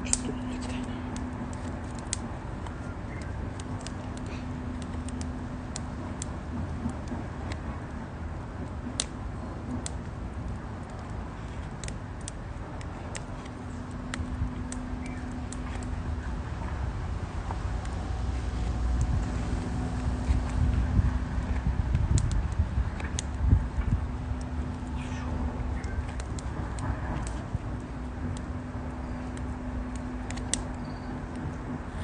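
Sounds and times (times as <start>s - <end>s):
campfire crackling and popping: 0.0s - 32.0s
steady low rumble: 0.0s - 32.0s.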